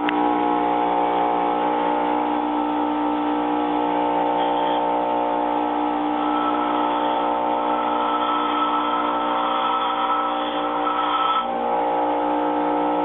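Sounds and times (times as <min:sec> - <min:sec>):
bench grinder motor hum: 0:00.0 - 0:13.0.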